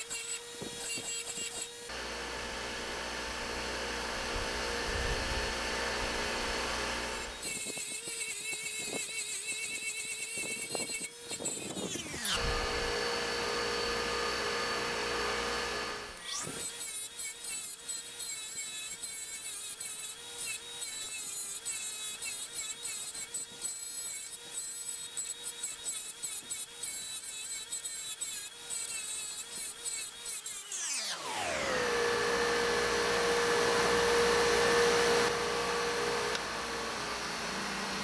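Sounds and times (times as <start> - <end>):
grinder motor whine: 0.0 - 38.0.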